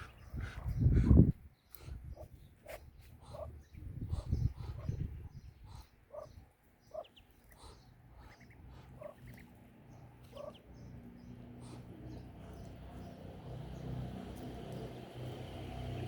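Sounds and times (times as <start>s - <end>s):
poultry clucking: 0.0s - 13.1s.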